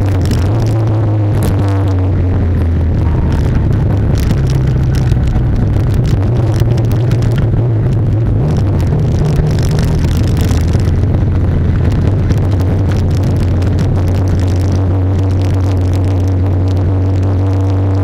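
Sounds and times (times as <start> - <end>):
car engine drone from inside cabin: 0.0 - 18.0.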